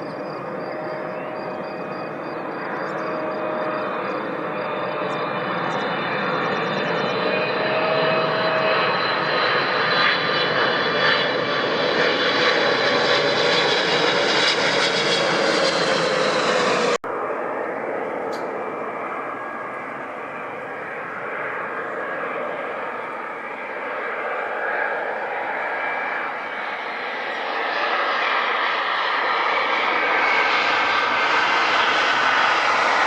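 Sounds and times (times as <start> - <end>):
jet engines rushing and whining: 0.0 - 33.0.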